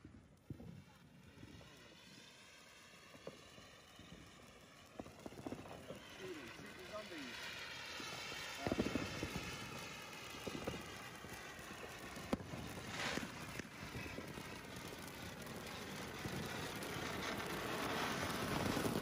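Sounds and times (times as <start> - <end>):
fountain fireworks hissing: 0.5 - 19.0.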